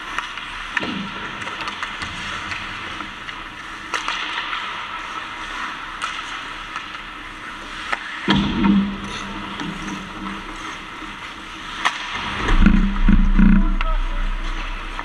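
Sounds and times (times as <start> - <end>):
ice skate blades scraping: 0.0 - 8.3, 9.0 - 15.0
hockey sticks and puck clacking: 0.0 - 15.0.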